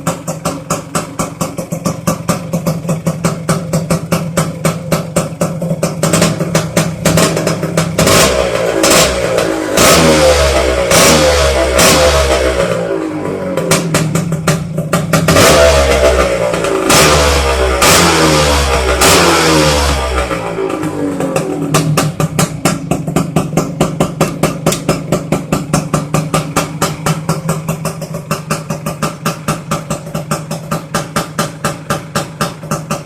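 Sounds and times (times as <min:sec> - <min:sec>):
two-stroke engine revving and idling: 0:00.0 - 0:33.0.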